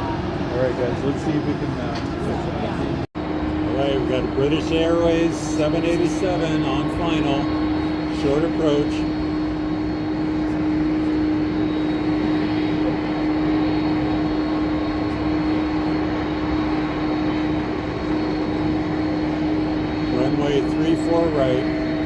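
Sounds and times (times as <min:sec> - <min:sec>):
jet airliner drone: 0:00.0 - 0:22.0.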